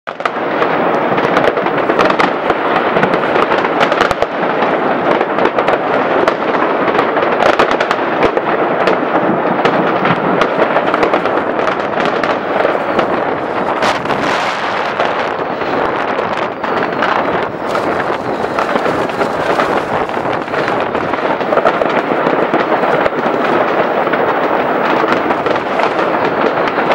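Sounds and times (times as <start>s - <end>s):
fireworks bangs and crackling: 0.1s - 26.9s
sharp firework cracks: 0.1s - 26.9s.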